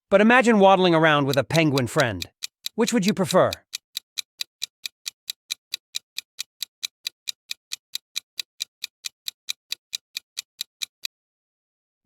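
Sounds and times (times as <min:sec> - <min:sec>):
clock ticking: 0:00.2 - 0:11.1.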